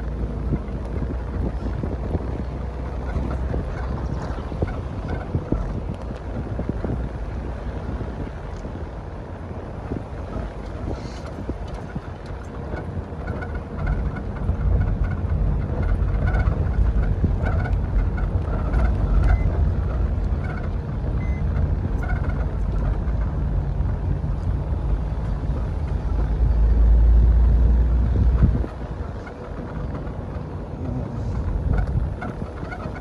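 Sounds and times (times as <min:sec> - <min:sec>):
vehicle tyres rumbling: 0:00.0 - 0:33.0
wind noise: 0:00.0 - 0:33.0.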